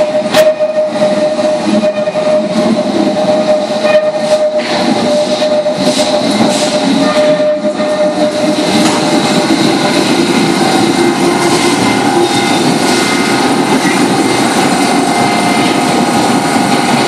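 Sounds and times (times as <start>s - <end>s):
train traction whine: 0.0s - 17.0s
wheels on rail: 0.0s - 17.0s.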